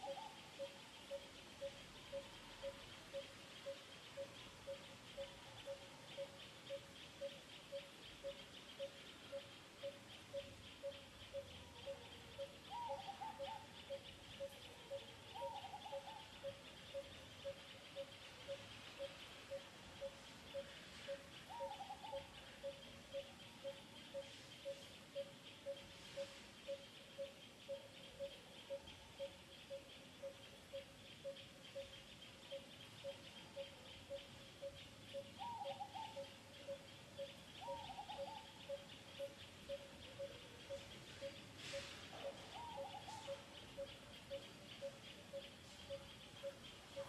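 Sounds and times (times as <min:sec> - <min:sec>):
insects trilling: 0:00.0 - 0:47.0
short wavering calls: 0:00.0 - 0:47.0.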